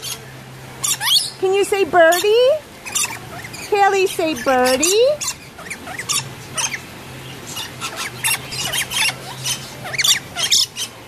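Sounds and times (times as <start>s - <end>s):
lorikeets squeaking and chattering: 0.0s - 11.0s.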